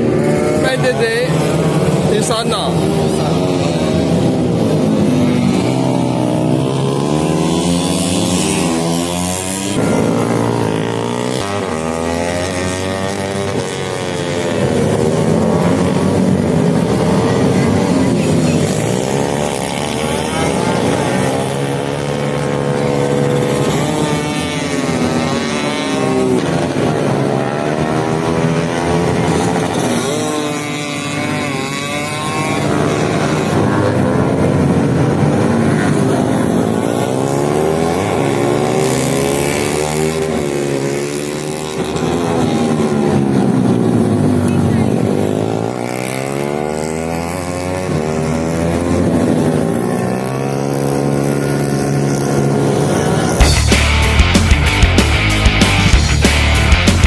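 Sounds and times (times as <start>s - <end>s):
motorcycle engines revving and passing: 0.0s - 57.0s.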